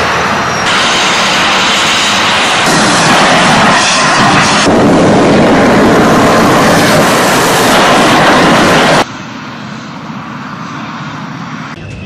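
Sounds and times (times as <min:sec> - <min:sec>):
distant engine noise: 0:00.0 - 0:12.0
heavy vehicle engine driving past: 0:00.0 - 0:12.0.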